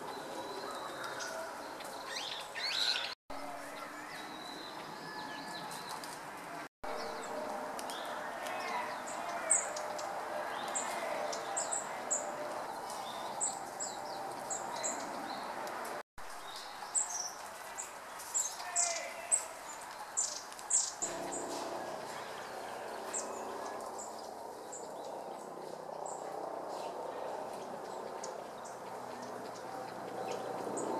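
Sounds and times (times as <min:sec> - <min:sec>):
steady background noise: 0:03.3 - 0:30.9.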